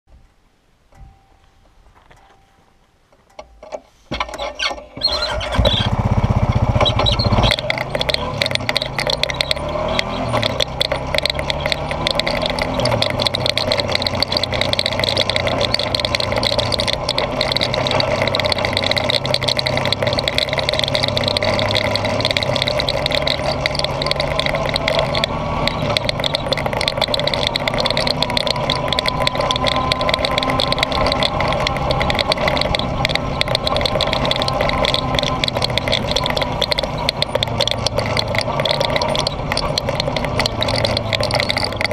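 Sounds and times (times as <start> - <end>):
quad bike engine running: 4.2 - 41.9
high whine: 6.1 - 41.9.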